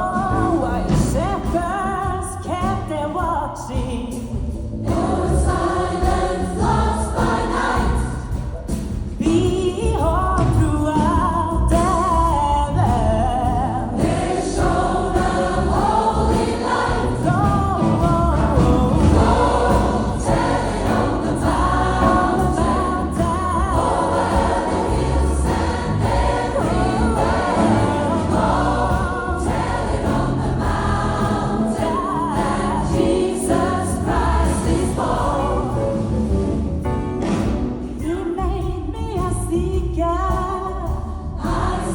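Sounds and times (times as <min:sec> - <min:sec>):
gospel choir singing: 0:00.0 - 0:02.9, 0:03.6 - 0:09.3, 0:12.8 - 0:38.0, 0:40.8 - 0:41.9
band accompaniment with strong beat: 0:00.0 - 0:41.9.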